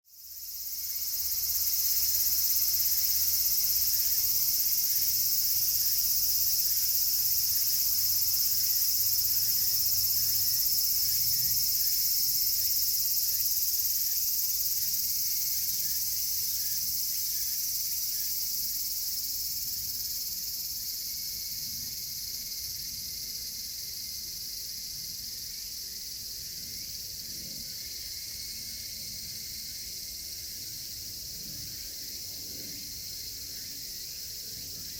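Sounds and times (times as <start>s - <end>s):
cicadas buzzing: 0.2s - 34.9s.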